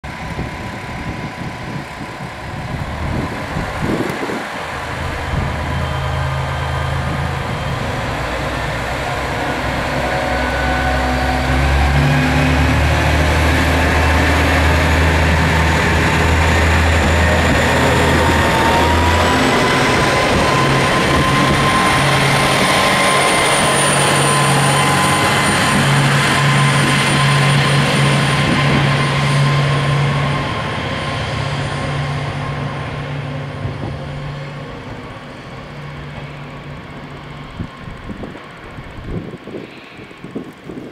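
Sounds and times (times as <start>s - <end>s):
diesel railcar engine drone: 0.0s - 40.9s.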